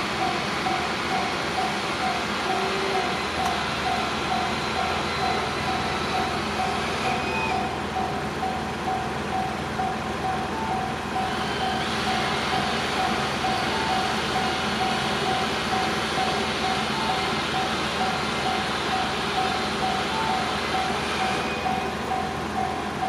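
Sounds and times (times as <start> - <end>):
level-crossing alarm bell: 0.0 - 23.0
train rushing past: 0.0 - 23.0.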